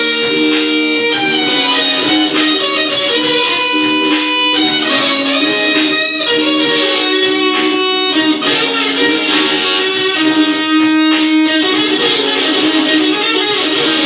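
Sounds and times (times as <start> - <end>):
electric guitar playing blues: 0.0 - 14.0.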